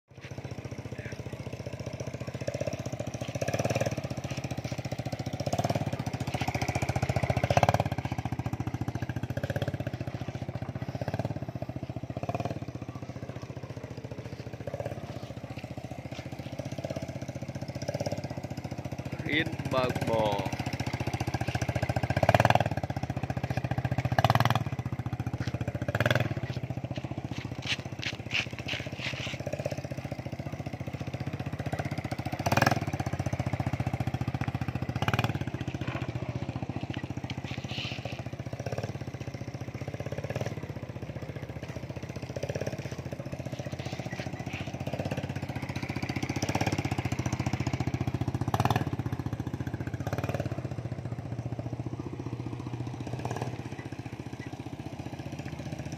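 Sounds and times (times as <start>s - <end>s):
small motorcycle engine running: 0.1s - 55.9s.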